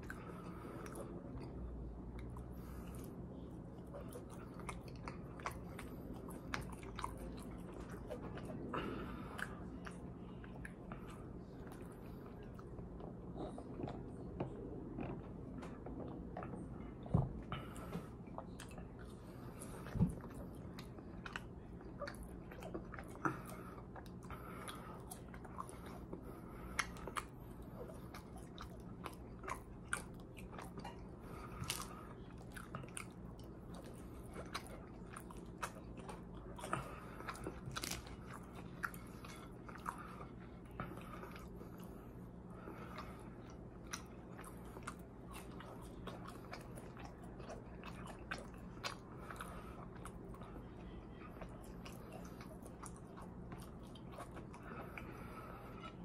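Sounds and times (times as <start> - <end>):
chewing french fries: 0.0 - 56.0.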